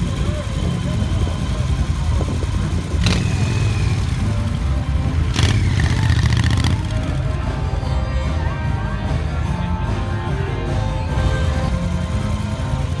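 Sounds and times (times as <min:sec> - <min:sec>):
motorcycle engine revving: 0:00.0 - 0:08.6, 0:11.1 - 0:13.0.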